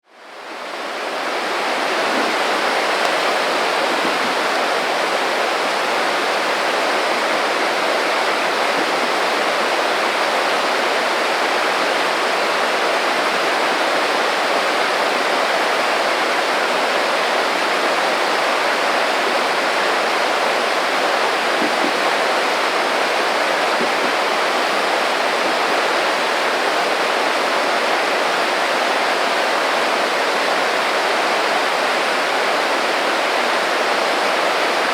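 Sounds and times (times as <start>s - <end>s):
creek babbling: 0.3s - 34.9s.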